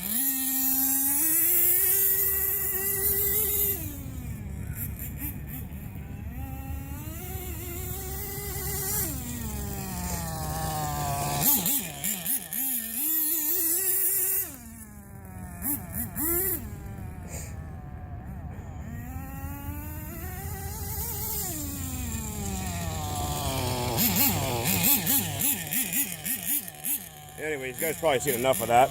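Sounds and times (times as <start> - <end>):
nitro engine revving: 0.0 - 28.9.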